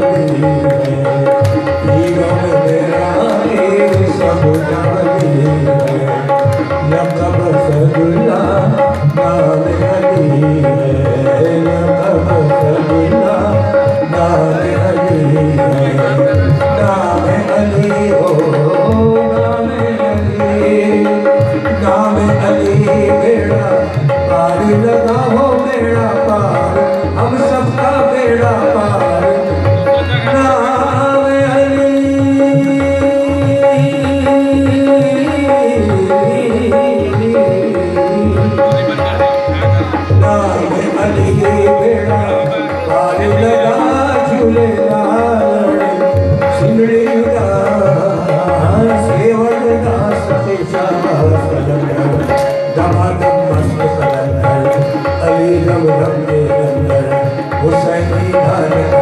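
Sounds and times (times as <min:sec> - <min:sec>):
harmonium holding a note: 0:00.0 - 0:59.0
man singing: 0:00.0 - 0:59.0
tabla playing fast rhythm: 0:00.0 - 0:59.0.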